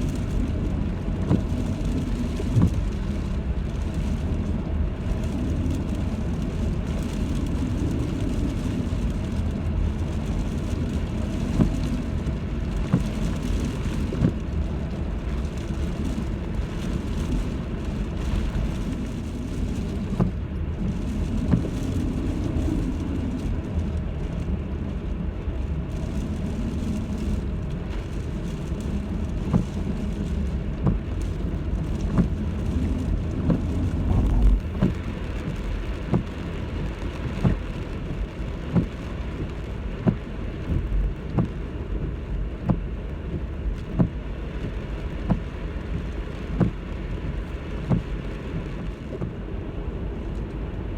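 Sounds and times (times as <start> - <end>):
buffeting wind rumble: 0.0 - 50.9.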